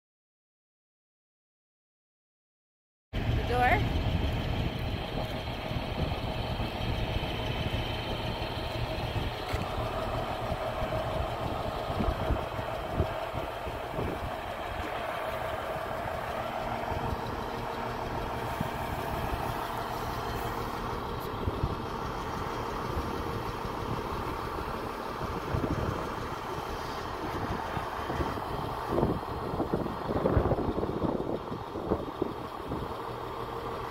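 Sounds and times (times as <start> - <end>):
diesel truck engine running: 3.2 - 33.9.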